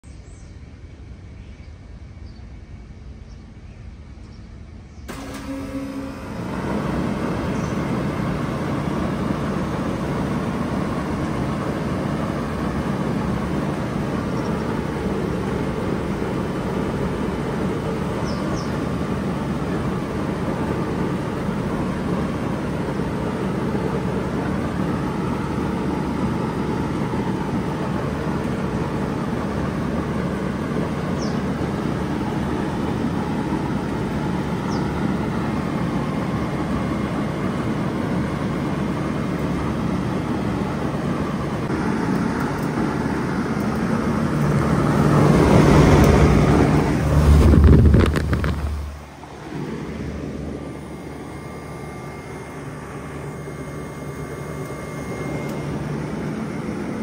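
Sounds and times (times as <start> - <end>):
heat pump fan noise: 0.0 - 57.0
low compressor hum: 0.1 - 57.0.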